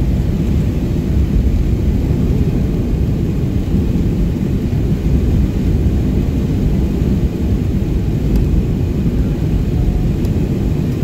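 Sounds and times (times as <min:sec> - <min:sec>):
jet engines taxiing rumble: 0:00.0 - 0:11.0.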